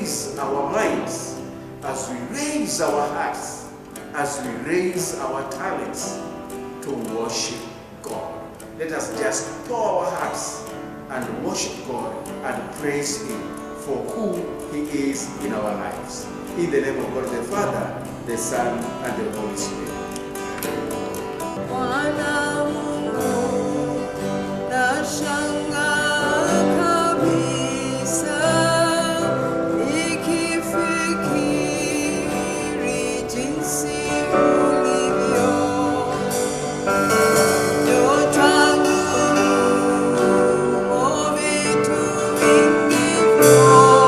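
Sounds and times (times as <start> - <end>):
person singing: 0.0 - 6.2, 6.9 - 20.2, 21.6 - 44.0
guitar: 0.0 - 44.0
keyboard: 0.0 - 44.0.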